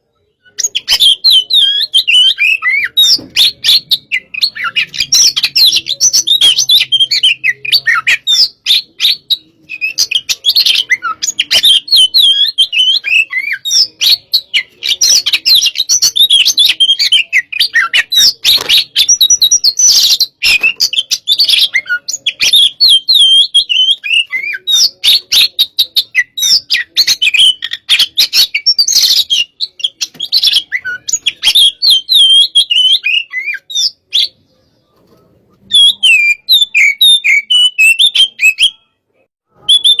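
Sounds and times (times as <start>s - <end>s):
bird singing loudly: 0.1s - 34.5s, 35.6s - 40.0s.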